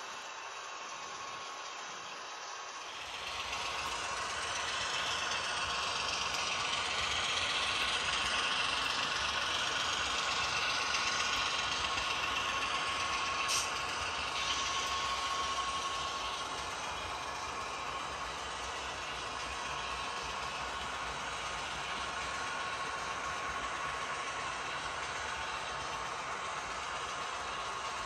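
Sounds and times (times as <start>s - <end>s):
model train rolling on track: 0.0s - 28.0s
thin motor whine: 0.0s - 28.0s.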